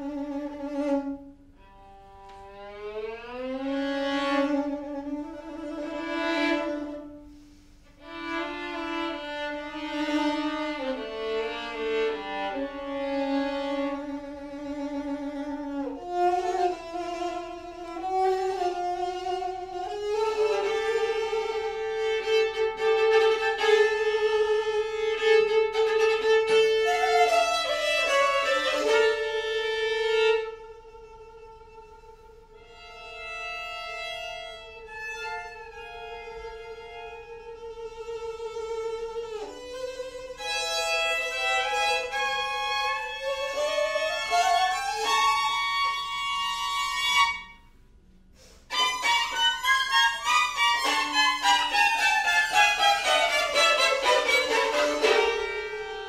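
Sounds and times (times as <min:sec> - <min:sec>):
string quartet playing: 0:00.0 - 0:56.0.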